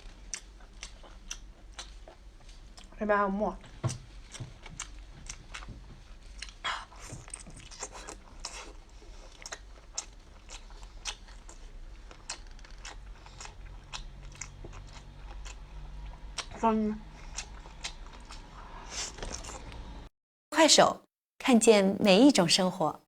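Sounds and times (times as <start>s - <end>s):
crunchy chewing: 0.0s - 3.0s, 3.6s - 20.0s.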